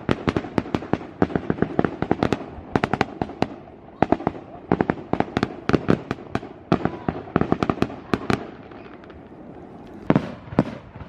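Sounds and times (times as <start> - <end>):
fireworks cracking: 0.0 - 11.0.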